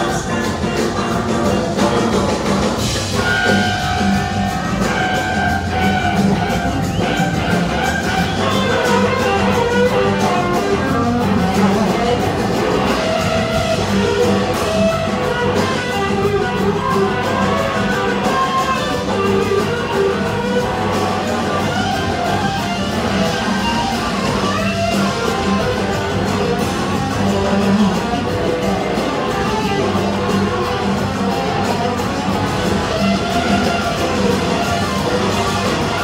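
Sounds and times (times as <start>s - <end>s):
electric guitar: 0.0s - 36.0s
live rock band playing: 0.0s - 36.0s.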